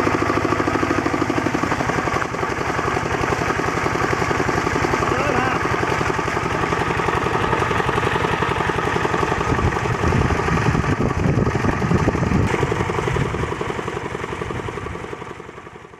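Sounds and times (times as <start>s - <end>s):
diesel engine driving water pump: 0.0s - 15.9s.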